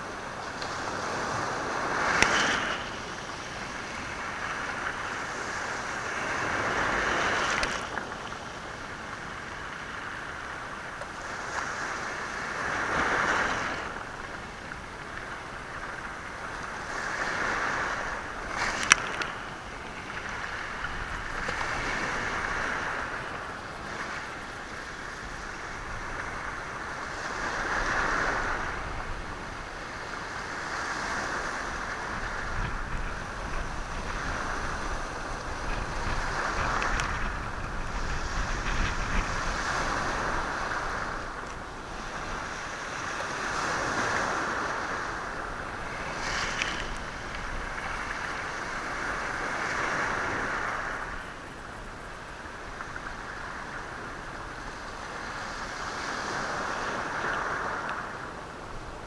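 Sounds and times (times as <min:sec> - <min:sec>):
waves washing over stony shore: 0:00.0 - 0:59.0.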